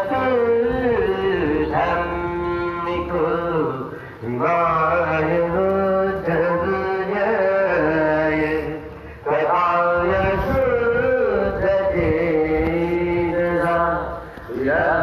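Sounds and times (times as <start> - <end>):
person singing long gliding notes: 0.0 - 15.0.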